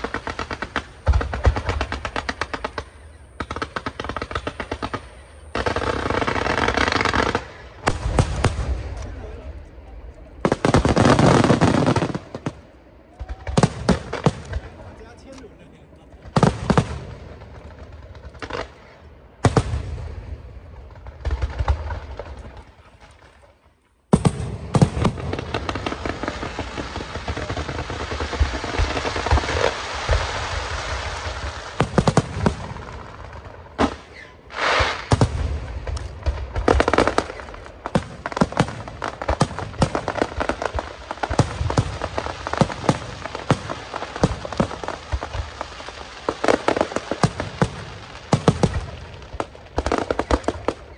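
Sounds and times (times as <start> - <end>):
fireworks banging and crackling: 0.0 - 50.9.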